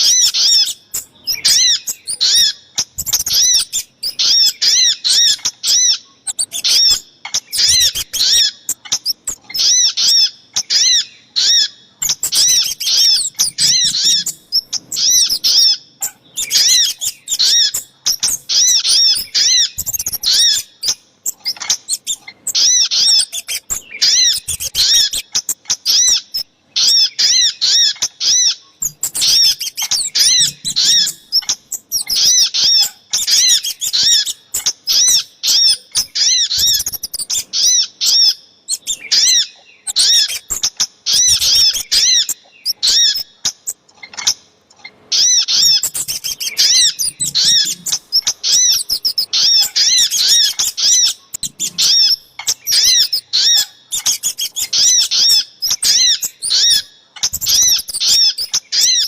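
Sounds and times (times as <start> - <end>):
small songbirds calling: 0.0 - 59.0.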